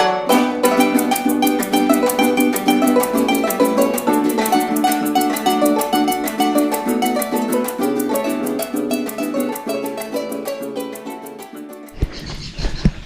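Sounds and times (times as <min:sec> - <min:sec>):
plucked-string melody: 0:00.0 - 0:12.0
quick steady beat: 0:00.3 - 0:12.2.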